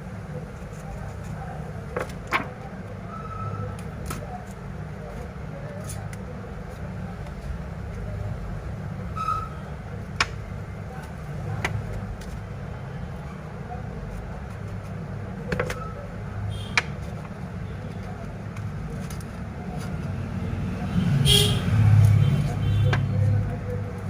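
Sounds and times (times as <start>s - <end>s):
background traffic rumble: 0.0s - 24.0s.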